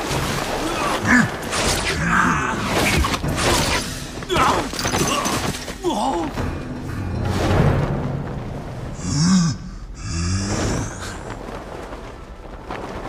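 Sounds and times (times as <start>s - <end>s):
dramatic music: 0.0s - 12.1s.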